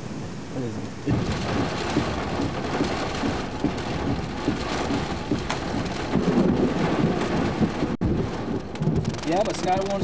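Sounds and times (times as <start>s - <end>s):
heavy rain on a car: 0.0s - 10.0s
thunder rumbling: 1.0s - 10.0s.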